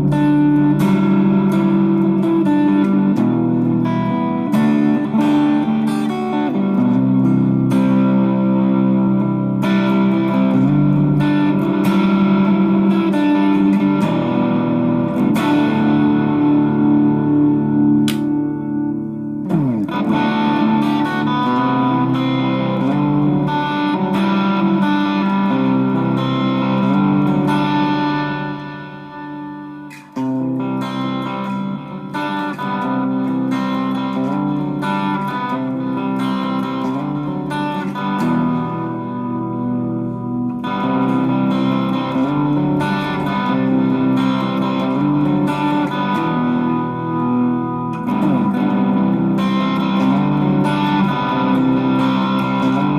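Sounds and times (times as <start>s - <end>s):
electric guitar chords and riffs: 0.0s - 52.9s.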